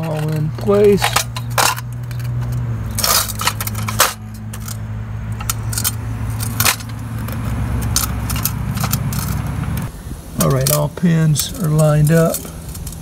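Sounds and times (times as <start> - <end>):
metallic clinks and scrapes: 0.0 - 13.0.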